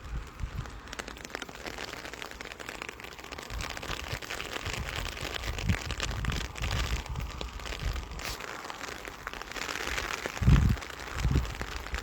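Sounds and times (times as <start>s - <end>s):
low rumble on microphone: 0.0s - 1.3s, 3.3s - 12.0s
light rain pattering: 0.0s - 12.0s.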